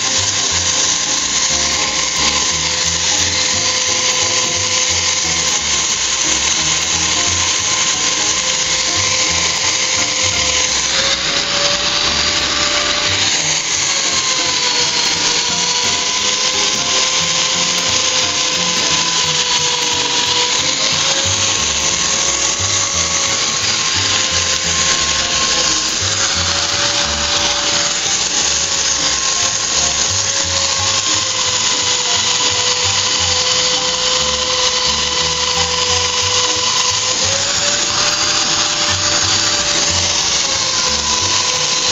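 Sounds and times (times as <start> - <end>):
floor polisher motor whine: 0.0 - 41.9
grinding hiss: 0.0 - 41.9.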